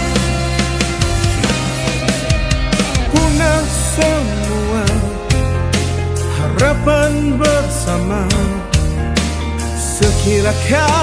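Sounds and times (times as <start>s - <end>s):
lead vocal: 0.0s - 9.0s, 9.6s - 11.0s
band playing pop ballad: 0.0s - 11.0s.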